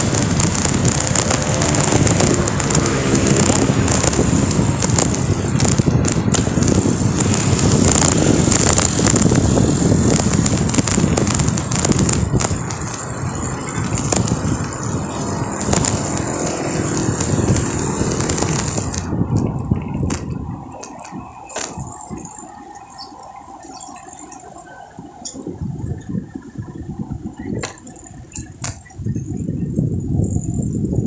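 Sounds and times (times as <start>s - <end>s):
traffic: 0.0s - 31.0s
tyre and road noise: 0.0s - 31.0s
wind rushing over microphone: 0.0s - 31.0s.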